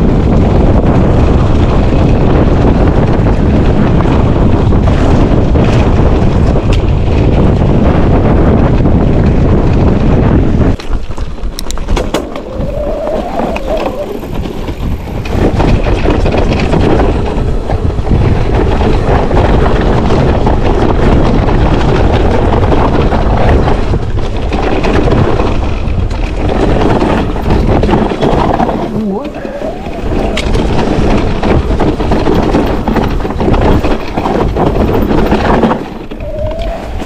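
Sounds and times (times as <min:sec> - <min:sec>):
bike rattling: 0:00.0 - 0:37.0
bike tyre noise: 0:00.0 - 0:37.0
wind buffeting microphone: 0:00.0 - 0:37.0.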